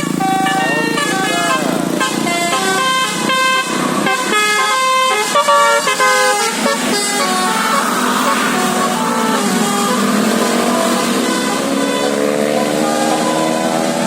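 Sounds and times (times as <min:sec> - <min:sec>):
musical bus air horn: 0:00.0 - 0:14.0.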